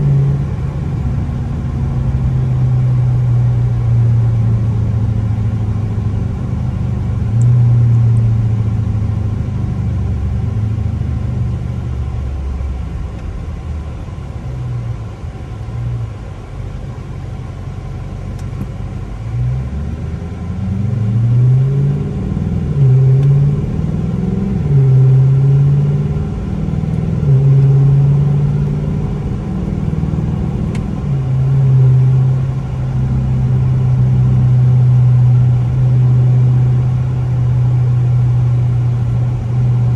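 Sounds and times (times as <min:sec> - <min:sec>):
car with loud exhaust driving: 0:00.0 - 0:39.9.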